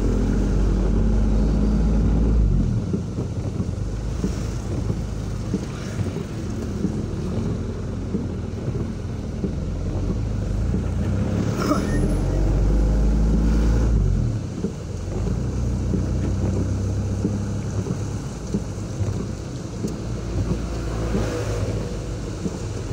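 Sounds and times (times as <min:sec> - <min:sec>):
vehicle engine and road noise: 0:00.0 - 0:22.9
wind buffeting microphone: 0:00.0 - 0:22.9.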